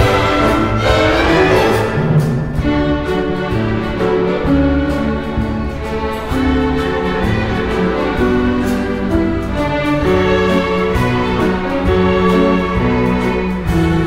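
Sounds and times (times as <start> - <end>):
orchestra playing: 0.0 - 14.0.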